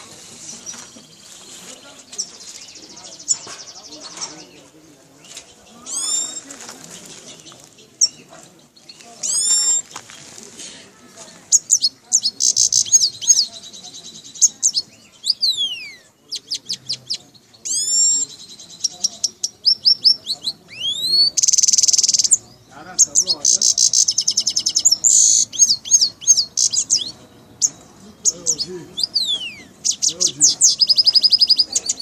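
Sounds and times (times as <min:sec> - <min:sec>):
bird singing varied song: 0:00.0 - 0:10.1, 0:11.1 - 0:32.0.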